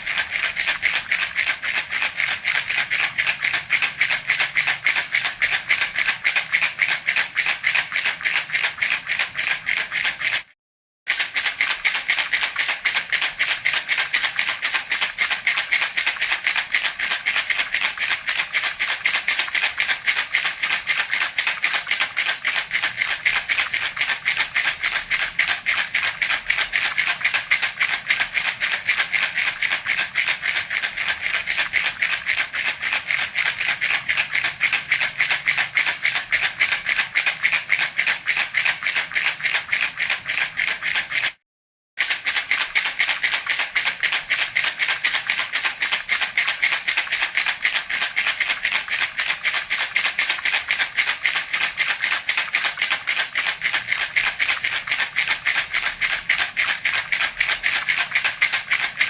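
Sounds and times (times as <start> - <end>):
baby rattle shaken: 0.0 - 10.5, 11.1 - 41.4, 42.0 - 59.0.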